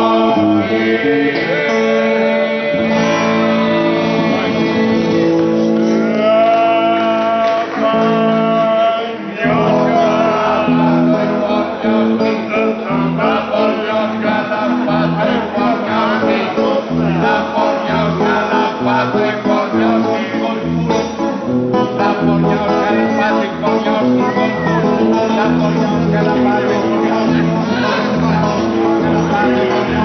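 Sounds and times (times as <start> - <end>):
men singing together: 0.0 - 30.0
strummed guitar: 0.0 - 30.0.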